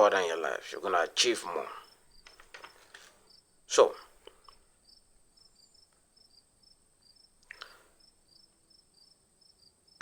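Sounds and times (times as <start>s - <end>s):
faint crickets chirping: 0.0s - 10.0s.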